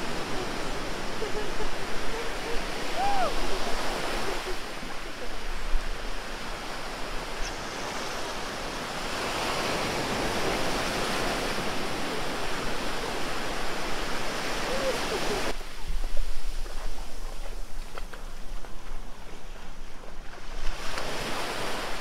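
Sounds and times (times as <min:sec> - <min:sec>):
small ocean waves breaking: 0:00.0 - 0:16.2, 0:19.2 - 0:22.0.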